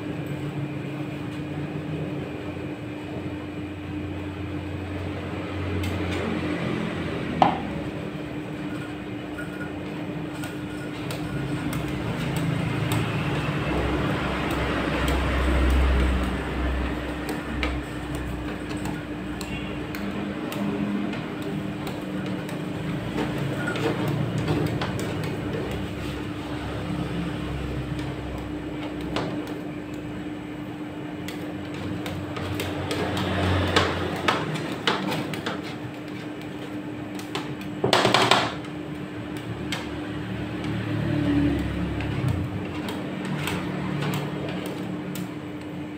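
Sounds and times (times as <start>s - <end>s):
refrigeration unit humming: 0.0s - 45.9s.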